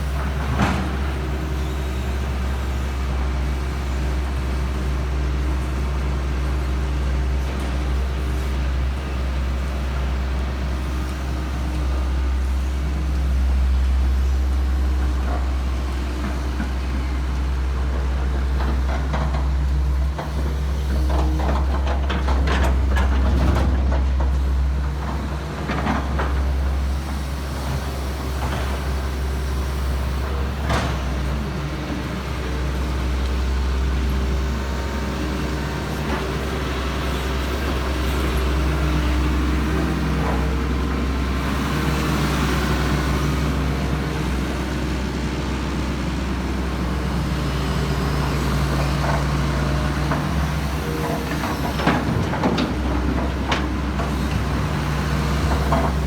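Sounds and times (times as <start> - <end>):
diesel machinery humming: 0.0 - 56.0.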